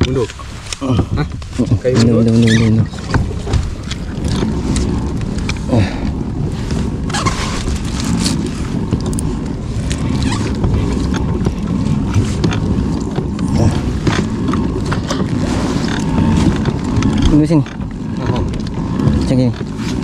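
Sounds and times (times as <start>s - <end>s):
low rumble of wind and water: 0.0s - 20.0s
paddle splashes and knocks: 0.0s - 20.0s.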